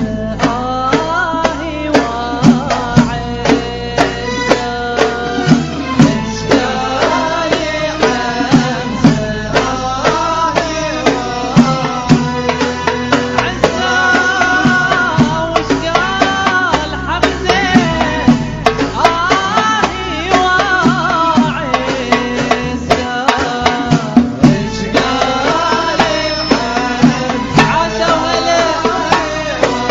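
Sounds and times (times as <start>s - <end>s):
hand drum beat: 0.0s - 29.9s.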